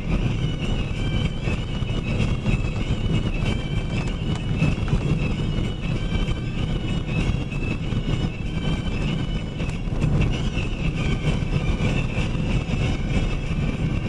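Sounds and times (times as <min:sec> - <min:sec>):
truck engine rumble: 0:00.0 - 0:14.0
tyre noise on road: 0:00.0 - 0:14.0.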